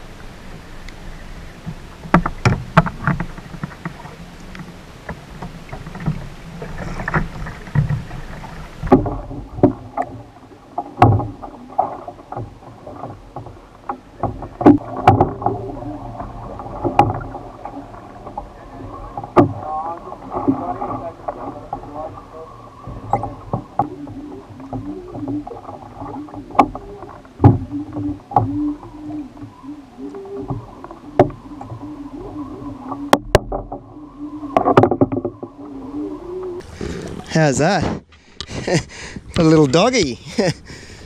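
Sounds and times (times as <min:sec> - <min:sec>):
water splashing against kayak hull: 0:00.0 - 0:41.0.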